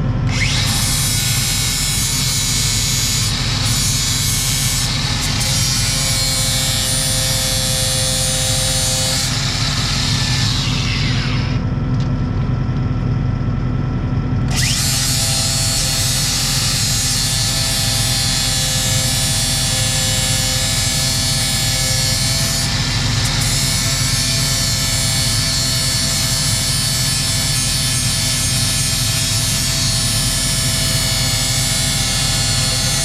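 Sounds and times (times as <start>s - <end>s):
electric grinder motor running: 0.3s - 11.7s, 14.5s - 33.0s.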